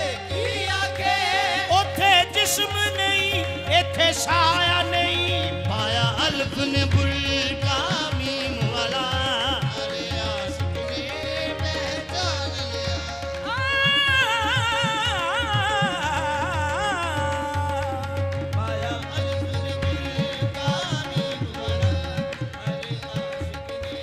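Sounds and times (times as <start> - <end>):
person singing wordless melody: 0.0 - 24.0
tabla playing: 0.0 - 24.0.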